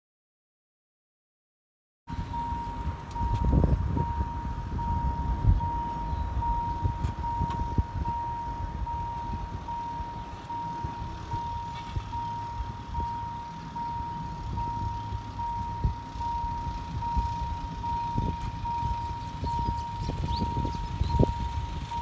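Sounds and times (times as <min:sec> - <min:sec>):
level-crossing warning tone: 0:02.1 - 0:22.0
low rumbling: 0:02.1 - 0:22.0.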